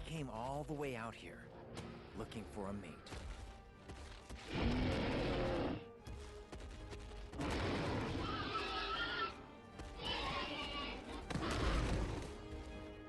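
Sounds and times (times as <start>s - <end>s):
film music: 0.0s - 13.0s.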